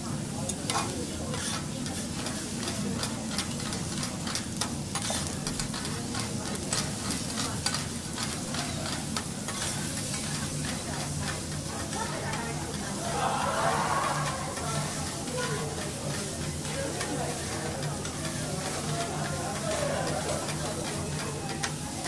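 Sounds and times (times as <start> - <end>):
garlic sizzling in oil: 0.0 - 22.0
metal spatula clicking and scraping: 0.5 - 13.0, 13.8 - 22.0.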